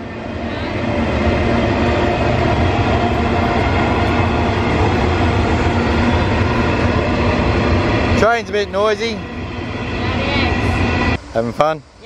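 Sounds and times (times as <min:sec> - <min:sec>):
train wagons rumbling and rattling: 0:00.0 - 0:12.0.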